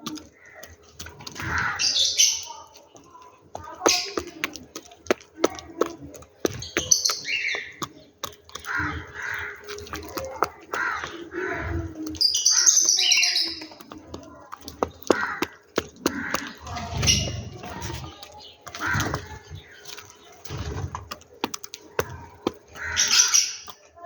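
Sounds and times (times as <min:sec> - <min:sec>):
birds chirping and calling: 0:00.0 - 0:24.0
sharp clicks and taps: 0:02.7 - 0:24.0.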